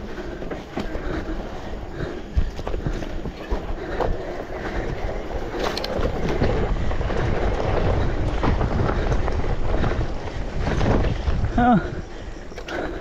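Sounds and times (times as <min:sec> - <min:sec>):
bike knocks and rattles: 0:00.0 - 0:13.0
tyres running over dirt: 0:00.0 - 0:13.0
wind rumbling on microphone: 0:00.0 - 0:13.0.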